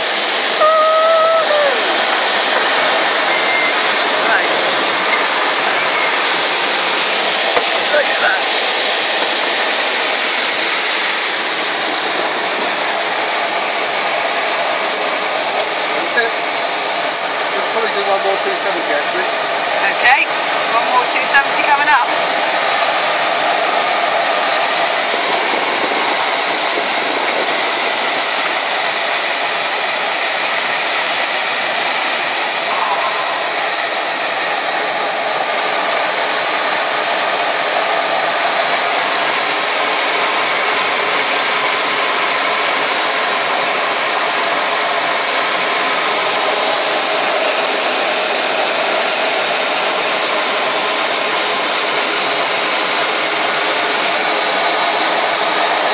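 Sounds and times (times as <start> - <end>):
airflow rushing over glider canopy: 0.0 - 55.9.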